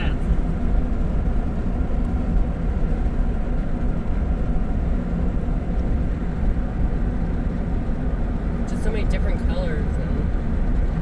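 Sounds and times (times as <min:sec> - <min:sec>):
car cabin road rumble: 0:00.0 - 0:11.0
engine hum: 0:00.0 - 0:11.0.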